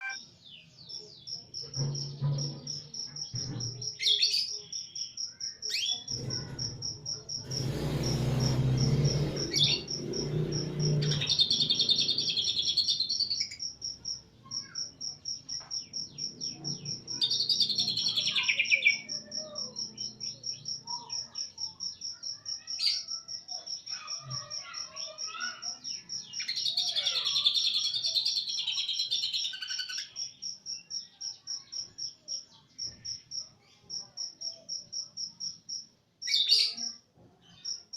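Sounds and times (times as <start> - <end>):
bird singing rapid warbling phrases: 0.0 - 37.9.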